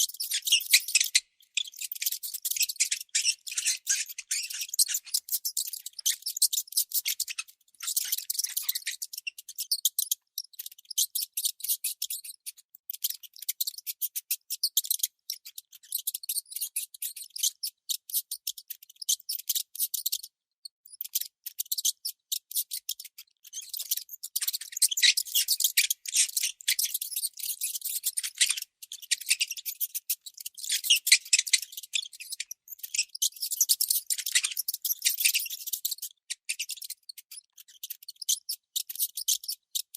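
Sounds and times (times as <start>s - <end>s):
baby mouse squeaking: 0.0s - 39.9s.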